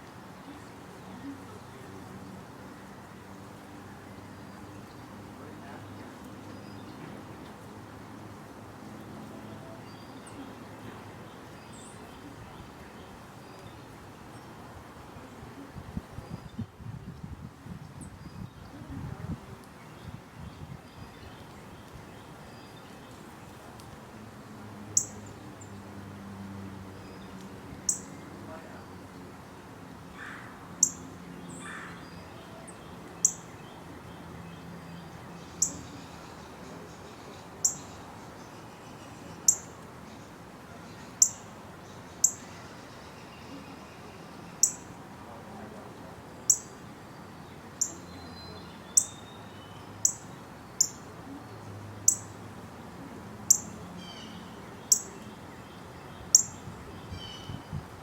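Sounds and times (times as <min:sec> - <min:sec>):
faint background chirping: 0:09.1 - 0:58.0.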